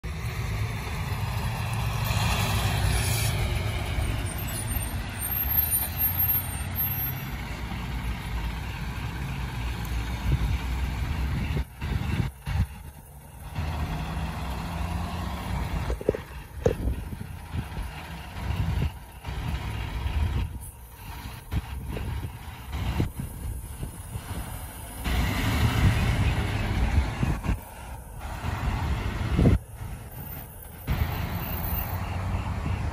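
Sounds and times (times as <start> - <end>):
truck diesel engine rumbling: 0.0 - 32.9.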